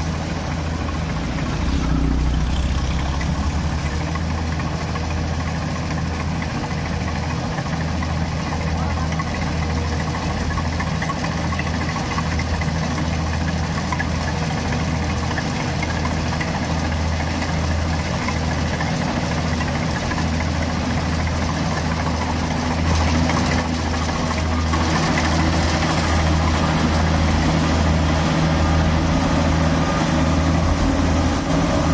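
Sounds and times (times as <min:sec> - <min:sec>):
combine harvester engine hum: 0:00.0 - 0:31.9.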